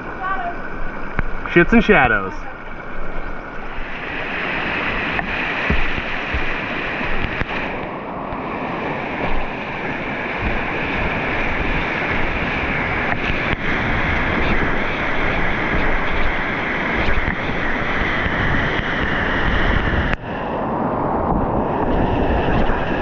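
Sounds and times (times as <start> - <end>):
river rapids rushing: 0.0 - 20.1
wind buffeting microphone: 0.0 - 23.0.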